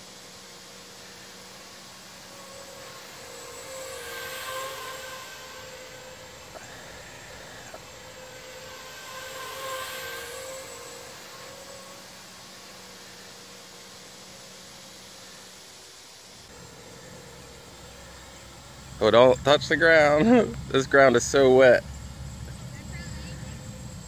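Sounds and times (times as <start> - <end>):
quadcopter motors whining past: 0.0 - 24.0.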